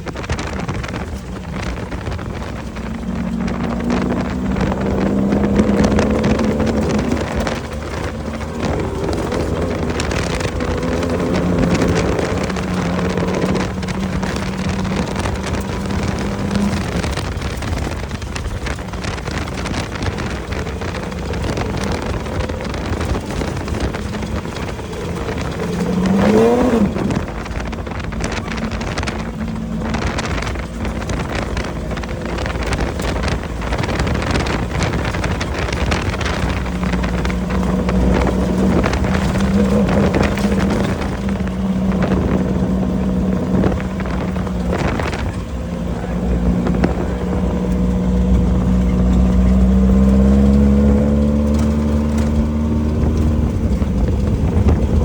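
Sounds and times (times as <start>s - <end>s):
off-road vehicle engine revving: 0.0s - 55.0s
wind noise on microphone: 0.0s - 55.0s.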